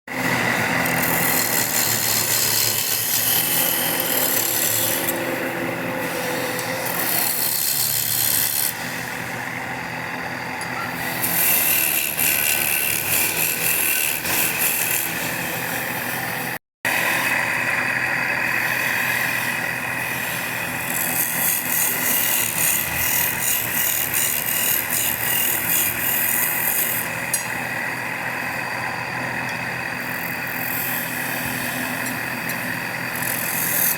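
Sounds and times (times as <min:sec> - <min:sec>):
power tool cutting wood: 0:00.1 - 0:33.9.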